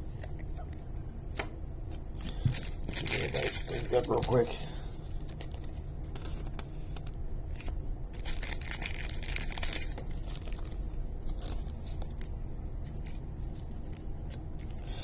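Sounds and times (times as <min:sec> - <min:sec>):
plastic and paper crinkling: 0:02.3 - 0:15.0.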